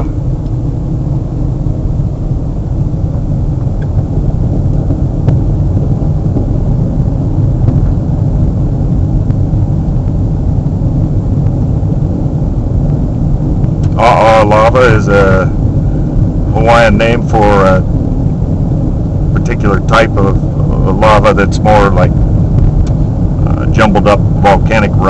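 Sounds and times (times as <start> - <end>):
car cabin road rumble: 0.0 - 25.0.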